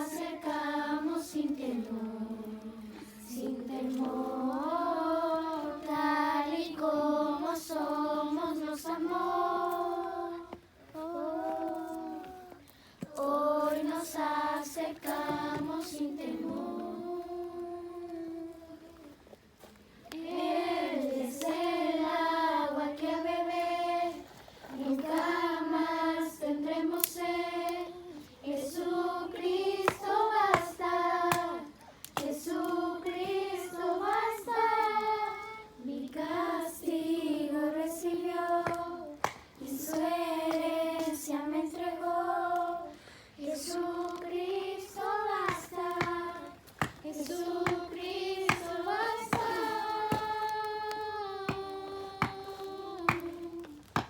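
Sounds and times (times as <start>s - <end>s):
high voices singing worship song: 0.0s - 19.4s, 20.0s - 54.0s.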